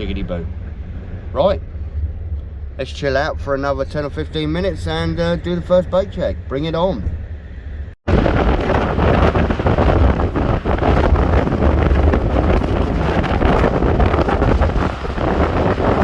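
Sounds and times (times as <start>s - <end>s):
gale wind on microphone: 0.0s - 16.0s.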